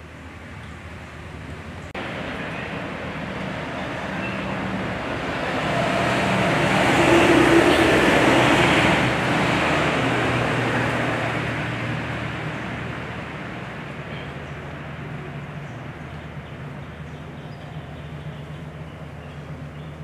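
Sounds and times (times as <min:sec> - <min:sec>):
van driving past: 0:02.0 - 0:19.7.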